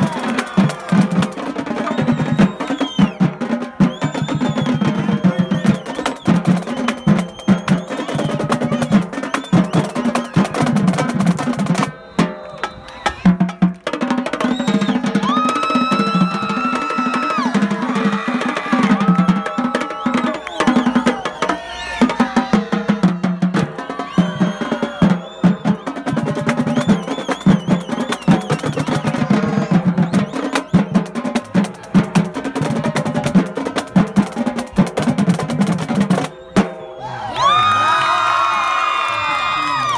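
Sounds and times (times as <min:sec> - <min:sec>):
marching drumline: 0:00.0 - 0:36.8.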